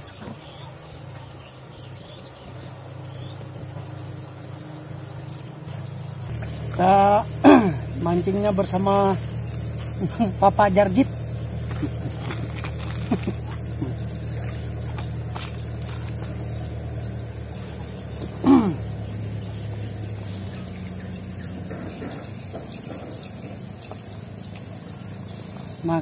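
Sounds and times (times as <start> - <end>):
insects droning: 0.0 - 26.0
low hum: 0.8 - 25.8.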